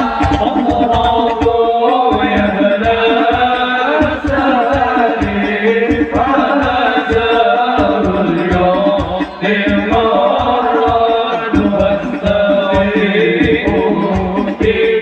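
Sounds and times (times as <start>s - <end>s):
drums beating: 0.0s - 15.0s
voices singing devotional songs: 0.0s - 15.0s.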